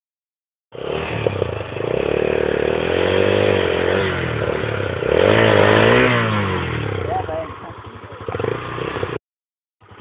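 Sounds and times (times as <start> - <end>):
motorcycle engine revving: 0.7 - 9.2.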